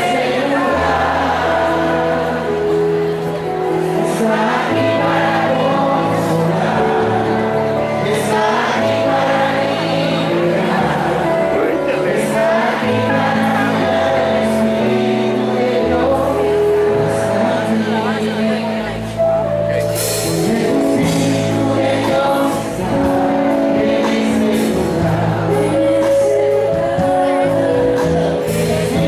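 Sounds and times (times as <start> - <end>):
bass line: 0.0 - 29.0
sustained accompaniment: 0.0 - 29.0
worship song singing: 0.0 - 29.0.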